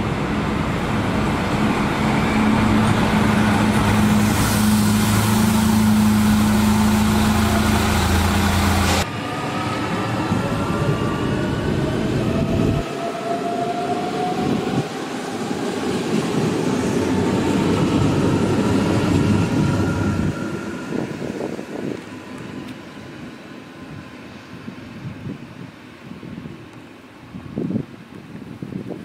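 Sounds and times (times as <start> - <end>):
train rumbling past: 0.0 - 26.2.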